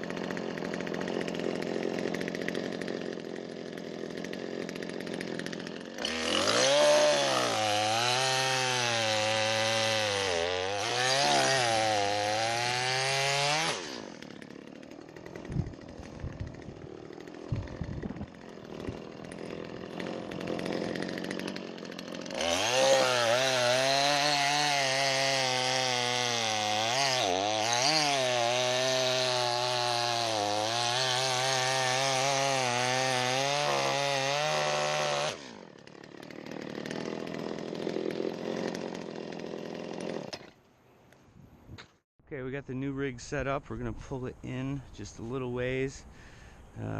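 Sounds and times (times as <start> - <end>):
chainsaw cutting wood: 0.0 - 40.7.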